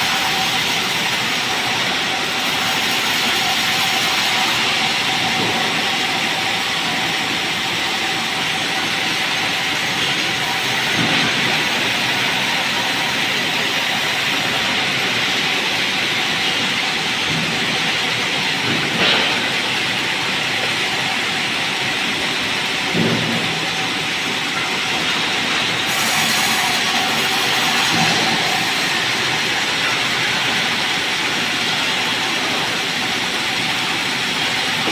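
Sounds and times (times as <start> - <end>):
band saw cutting log: 0.0 - 20.0, 23.7 - 34.9.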